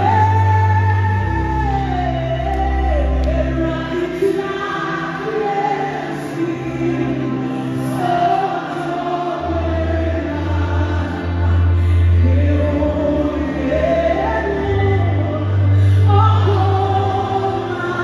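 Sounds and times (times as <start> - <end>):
backing singers: 0.0 - 18.0
keyboard: 0.0 - 18.0
woman singing into microphone: 0.0 - 18.0.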